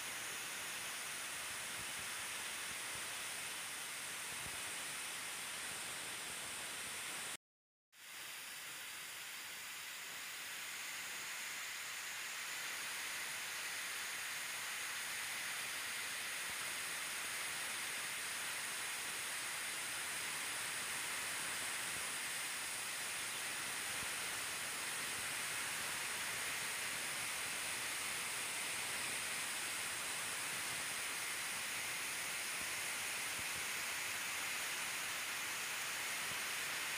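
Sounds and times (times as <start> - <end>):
steady hiss: 0.0 - 7.4, 8.0 - 36.9.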